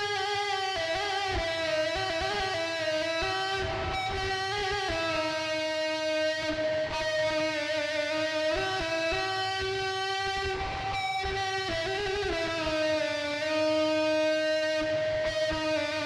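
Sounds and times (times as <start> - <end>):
melody of long held notes: 0.0 - 16.0.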